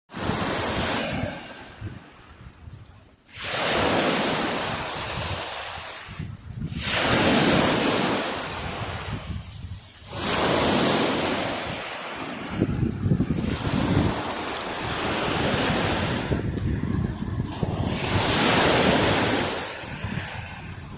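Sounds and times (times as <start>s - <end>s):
sea waves breaking: 0.1s - 20.9s
wind buffeting microphone: 0.1s - 20.9s.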